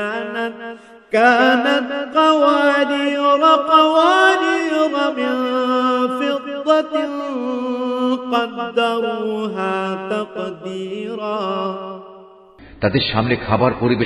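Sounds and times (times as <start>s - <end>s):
man chanting melodically: 0.0s - 12.1s.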